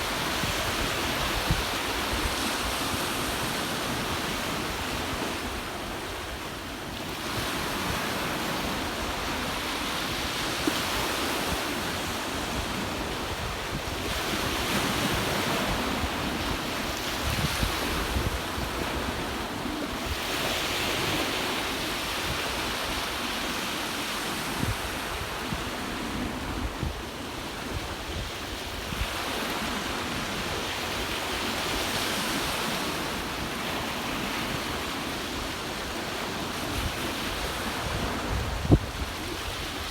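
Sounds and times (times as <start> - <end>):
wind rumble on microphone: 0.0 - 6.4, 7.2 - 33.2, 36.5 - 39.9
ocean waves breaking on shore: 0.0 - 39.9.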